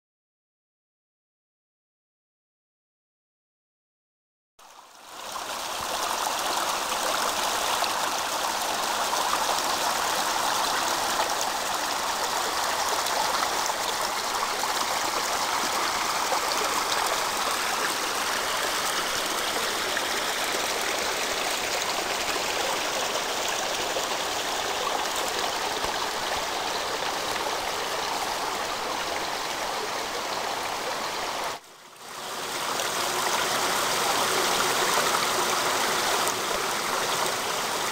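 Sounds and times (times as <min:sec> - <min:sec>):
creek flowing over stones: 0:04.6 - 0:37.9.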